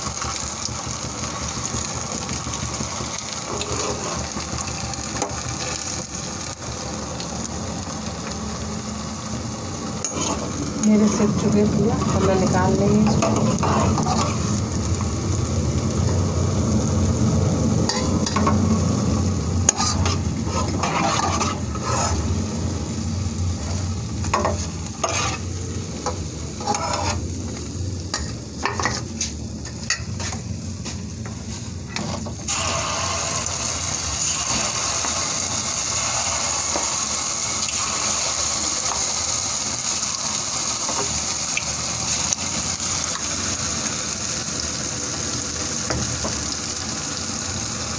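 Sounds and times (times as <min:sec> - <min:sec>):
oil sizzling while deep-frying: 0:00.0 - 0:47.9.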